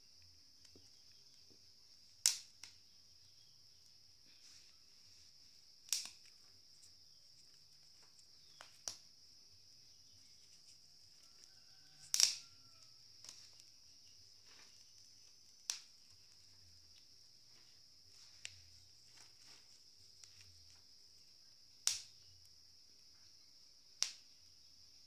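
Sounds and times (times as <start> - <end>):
maize cobs popping: 0.0 - 24.4
high-pitched hiss: 0.0 - 25.0.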